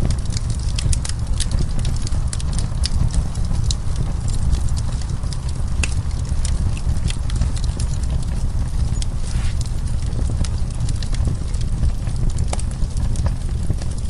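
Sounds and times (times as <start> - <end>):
burning logs popping and crackling: 0.0 - 14.0
low rumble of flame: 0.0 - 14.0.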